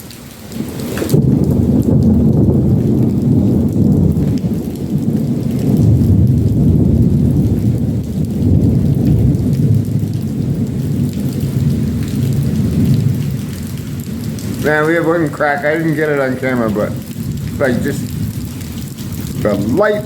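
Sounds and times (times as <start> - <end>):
heavy rain pouring: 0.0 - 20.0
thunder rumbling: 0.5 - 20.0.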